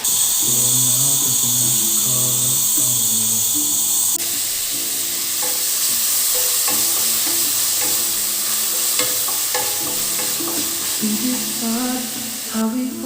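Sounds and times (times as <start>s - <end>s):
food sizzling in a frying pan: 0.0s - 13.0s
soft background song: 1.8s - 13.0s.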